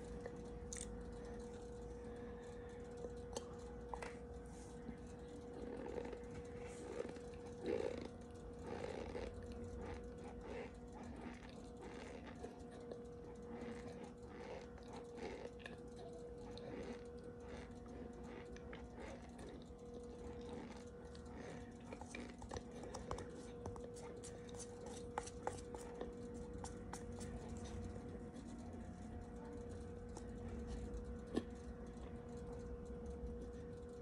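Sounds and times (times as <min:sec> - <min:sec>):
person chewing with crunching: 0:00.0 - 0:33.0
faint steady hum: 0:00.0 - 0:34.0.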